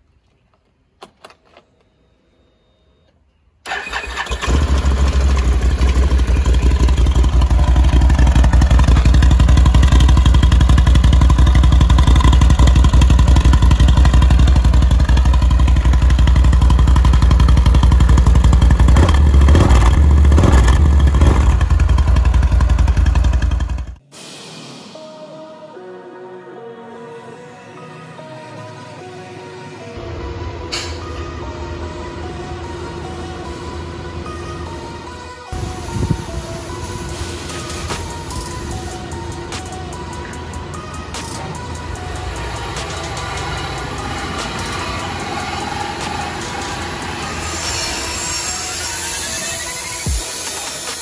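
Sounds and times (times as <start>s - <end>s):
engine starting and running: 3.6s - 24.0s, 28.4s - 51.0s.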